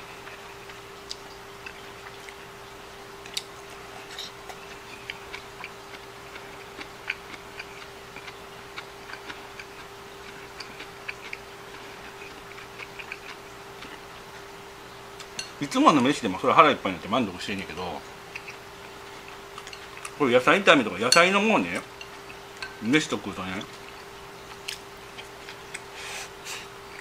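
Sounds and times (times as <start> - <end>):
quiet chewing: 0.0 - 2.6, 3.2 - 15.6, 18.1 - 20.2, 21.7 - 22.9, 23.6 - 27.0.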